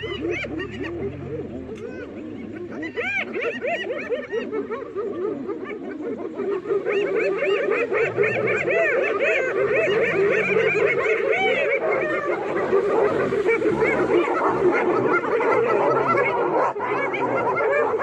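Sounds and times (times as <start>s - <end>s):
chorus of animal calls: 0.0s - 18.0s.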